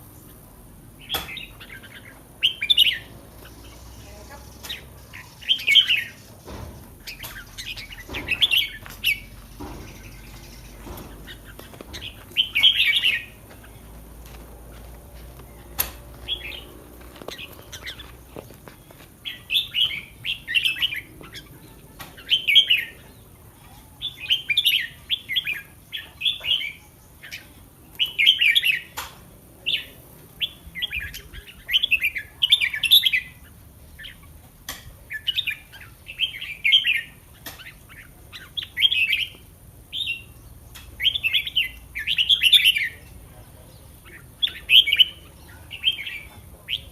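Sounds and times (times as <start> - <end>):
bulbul singing warbled phrases: 0.1 - 29.0, 29.6 - 34.3, 35.0 - 46.9.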